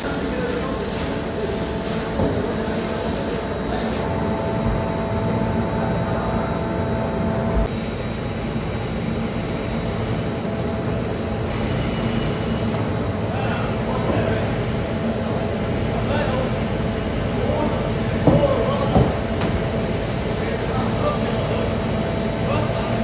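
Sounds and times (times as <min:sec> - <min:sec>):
mechanical rumble and hiss: 0:00.0 - 0:23.0.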